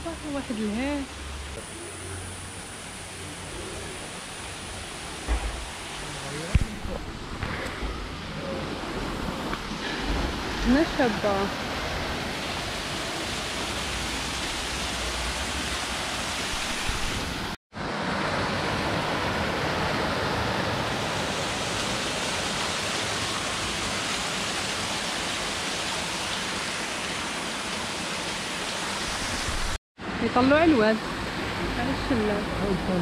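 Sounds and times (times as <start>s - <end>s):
water rushing over cascades: 2.4s - 29.8s.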